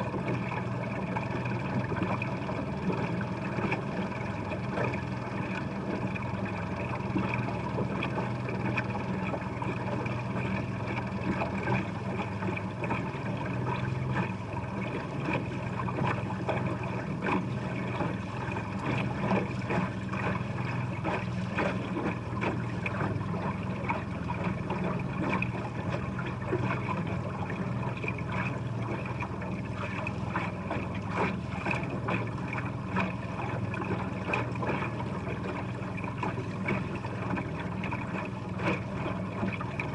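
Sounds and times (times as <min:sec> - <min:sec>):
boat motor running: 0:00.0 - 0:39.9.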